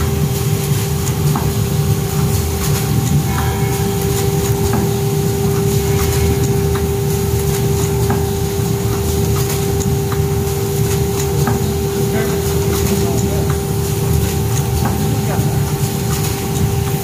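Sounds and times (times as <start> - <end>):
bagging machine humming: 0.0 - 17.0
machine clicks: 0.6 - 17.0.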